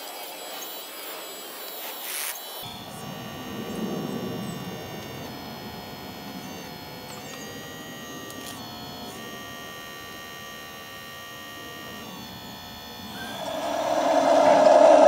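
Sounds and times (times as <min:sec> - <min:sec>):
hydraulic pump whining: 0:02.6 - 0:15.0.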